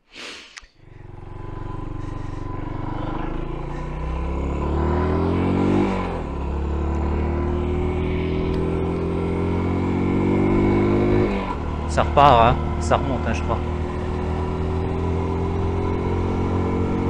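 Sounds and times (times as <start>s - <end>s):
motorcycle engine accelerating: 0.8s - 17.0s.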